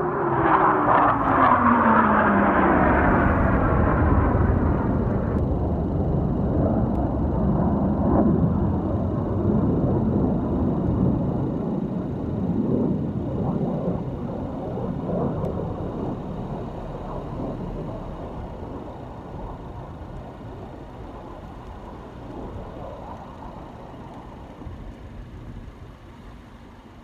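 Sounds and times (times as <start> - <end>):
aircraft engine rumble: 0.0 - 27.0.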